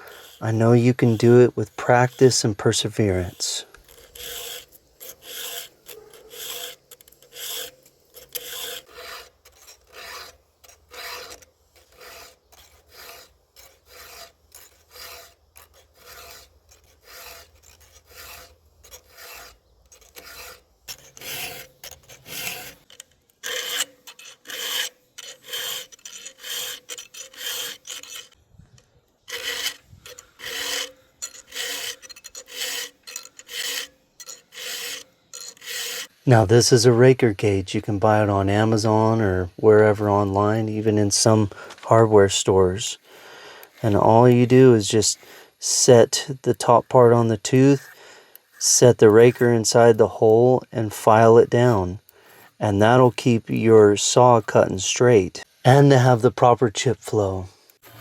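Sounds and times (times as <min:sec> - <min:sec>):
file rasping on chainsaw chain: 0:00.0 - 0:58.0.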